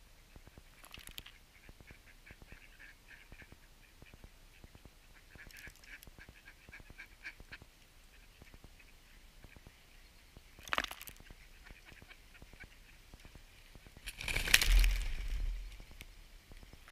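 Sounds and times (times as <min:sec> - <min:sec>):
ducks quacking faintly: 0:00.0 - 0:14.0.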